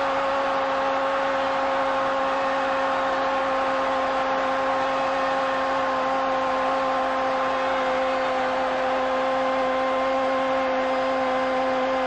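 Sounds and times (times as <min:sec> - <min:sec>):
stadium crowd noise: 0:00.0 - 0:12.0.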